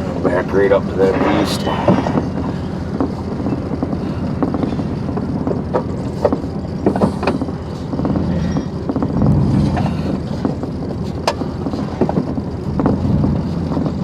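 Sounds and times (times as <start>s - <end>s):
knocks and rattles: 0.0s - 14.0s
vehicle engine reversing: 0.0s - 14.0s.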